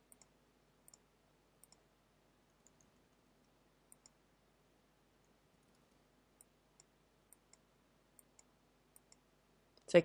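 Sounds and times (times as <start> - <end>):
computer mouse clicks: 0.0 - 1.9, 2.5 - 4.2, 5.2 - 9.9.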